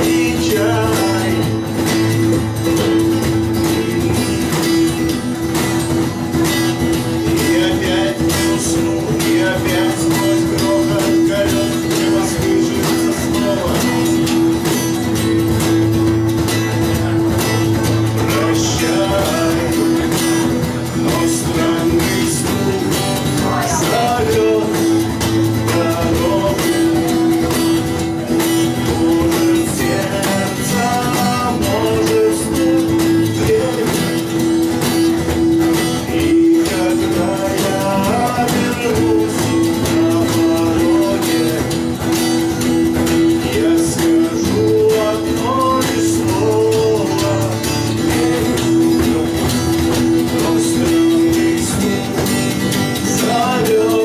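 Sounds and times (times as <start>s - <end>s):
person singing: 0.0s - 5.3s, 7.1s - 14.6s, 17.0s - 34.4s, 35.8s - 42.1s, 43.2s - 54.0s
acoustic guitar strummed: 0.0s - 54.0s.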